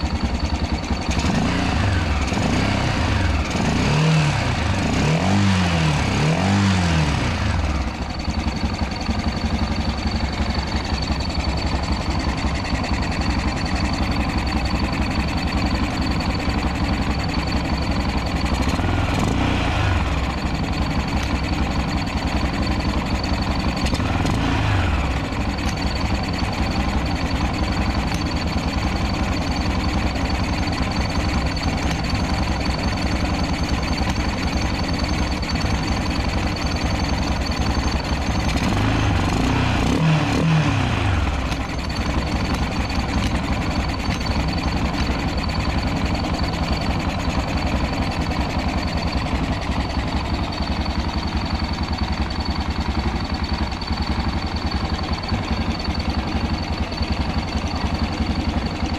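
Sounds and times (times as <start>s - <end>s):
motorcycle engine idling: 0.0s - 58.9s.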